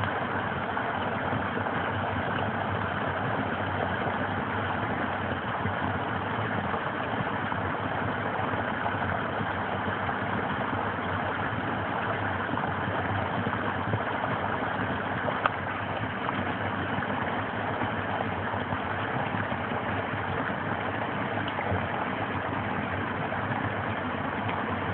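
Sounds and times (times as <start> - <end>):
stream pouring over rocks: 0.0 - 24.9.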